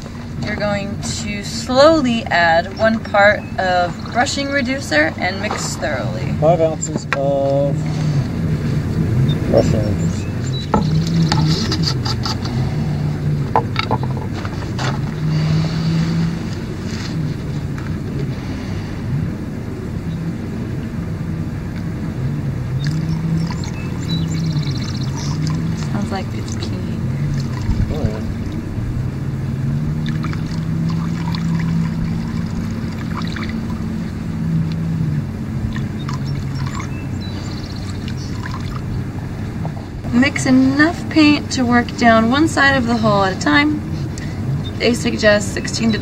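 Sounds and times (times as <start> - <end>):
engine droning: 0.0 - 46.0.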